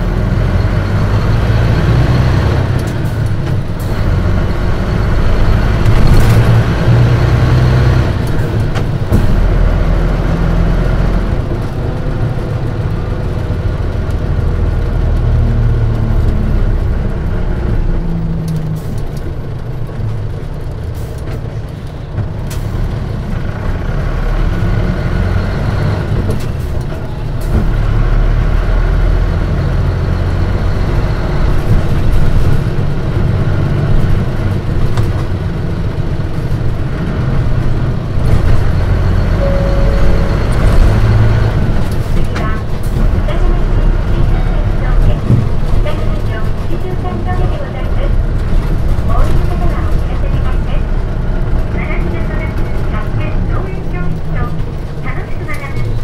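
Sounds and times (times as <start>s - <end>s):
bus engine revving and shifting: 0.0s - 56.0s.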